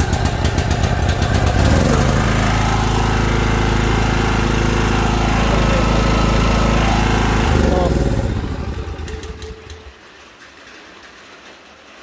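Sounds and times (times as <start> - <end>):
generator engine running: 0.0 - 10.1.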